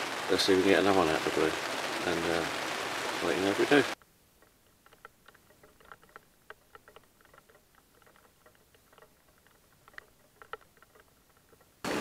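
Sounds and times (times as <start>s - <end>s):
raindrops pattering: 0.0s - 12.0s.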